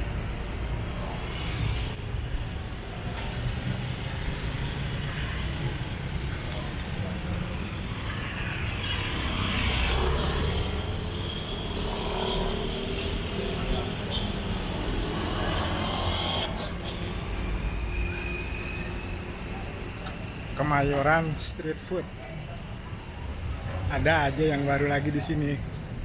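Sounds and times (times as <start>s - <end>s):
cars rumbling past: 0.0s - 21.6s.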